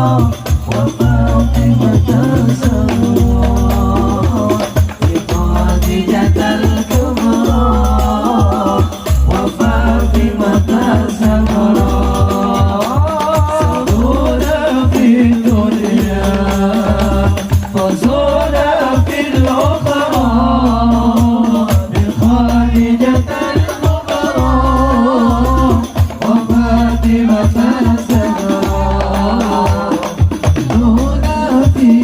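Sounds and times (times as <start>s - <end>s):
frame drum and bass drum beats: 0.0s - 32.0s
solo voice singing: 0.0s - 32.0s.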